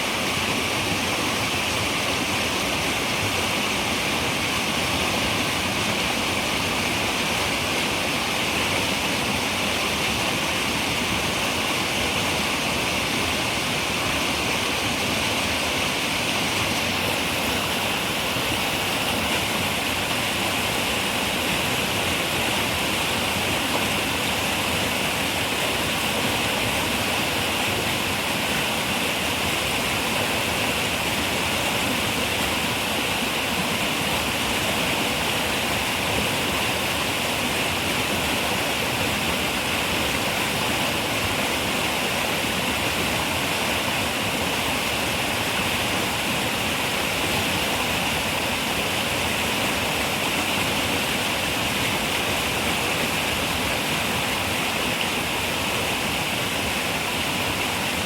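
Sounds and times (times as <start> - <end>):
river running: 0.0 - 58.0.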